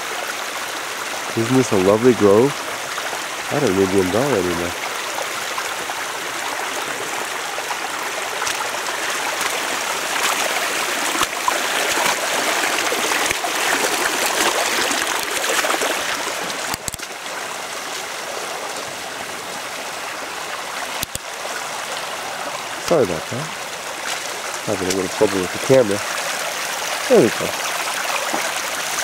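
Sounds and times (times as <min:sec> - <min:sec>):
stream water running: 0:00.0 - 0:29.0.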